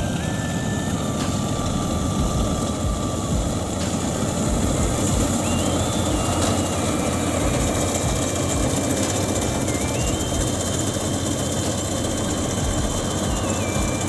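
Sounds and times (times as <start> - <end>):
harvester engine rumbling: 0.0 - 14.0
thin high tone changing pitch: 0.0 - 14.0.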